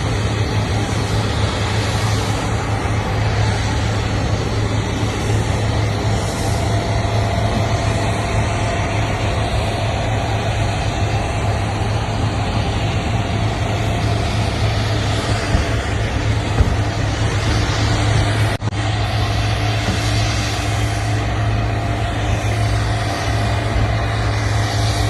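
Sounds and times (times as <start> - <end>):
loud engine hum: 0.0 - 25.0.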